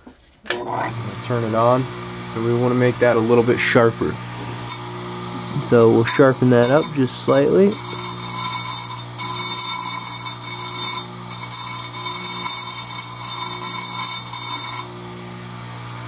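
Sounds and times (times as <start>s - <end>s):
bench grinder motor humming: 0.6s - 16.0s.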